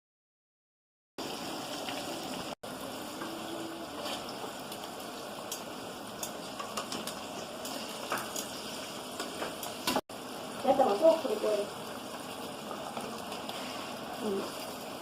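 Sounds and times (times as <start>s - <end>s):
chicken frying in hot oil: 1.2s - 15.0s.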